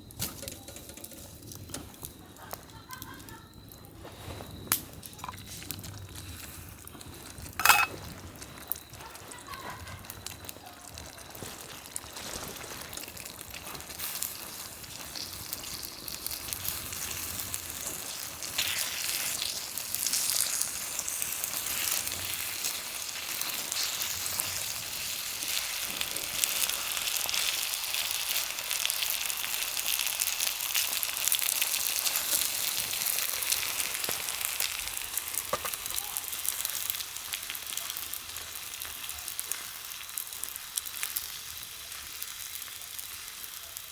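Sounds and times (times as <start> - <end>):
food sizzling in a pan: 0.0 - 43.9.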